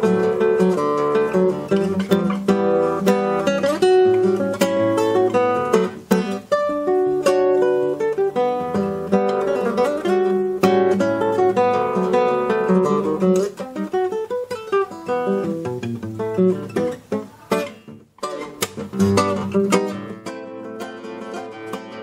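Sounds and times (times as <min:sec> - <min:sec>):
classical guitar fingerpicking: 0:00.0 - 0:22.0.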